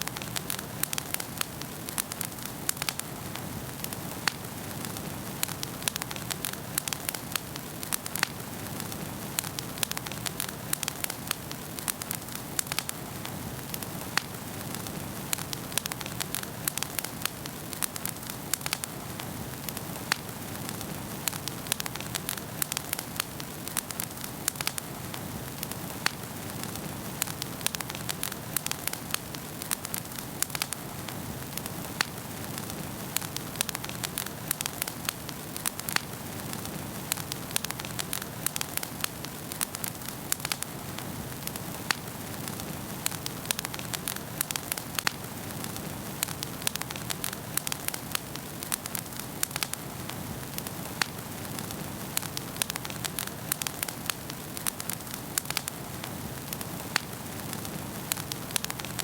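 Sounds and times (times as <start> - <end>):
soft hiss of burning: 0.0 - 59.0
wood fire crackling: 0.0 - 59.0.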